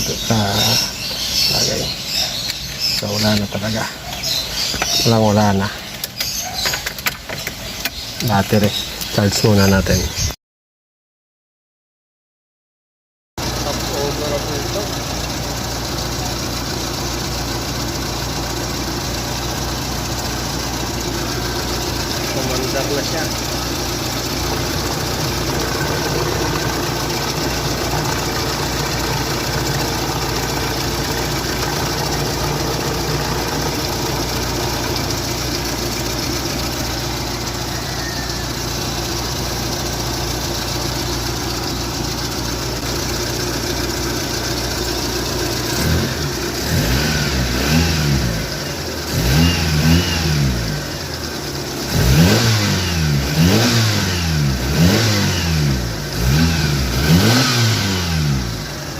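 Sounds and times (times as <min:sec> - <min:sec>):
car engine idling and revving: 0:00.0 - 0:10.3, 0:13.4 - 0:58.9.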